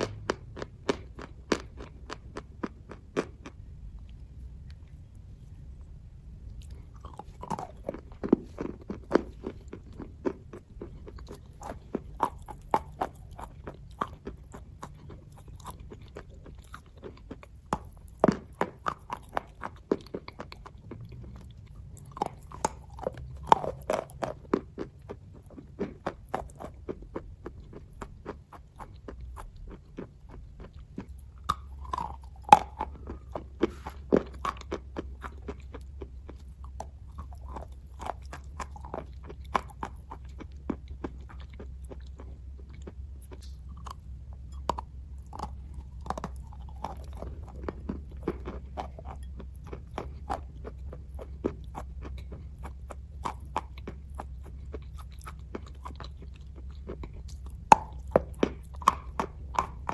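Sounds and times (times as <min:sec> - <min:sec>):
person chewing sticky food: 0:00.0 - 0:59.9.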